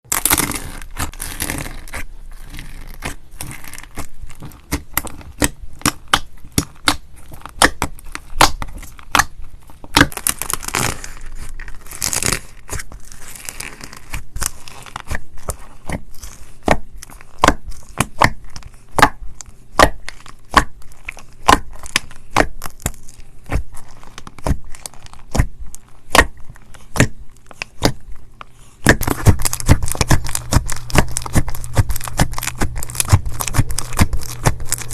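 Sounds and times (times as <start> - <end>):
slime crackly tearing: 0.1 - 28.0, 28.8 - 34.9.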